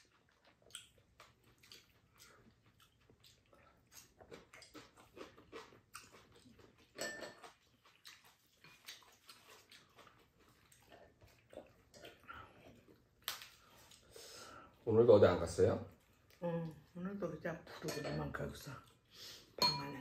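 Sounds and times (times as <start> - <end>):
people chewing: 0.0 - 17.1, 18.5 - 19.6.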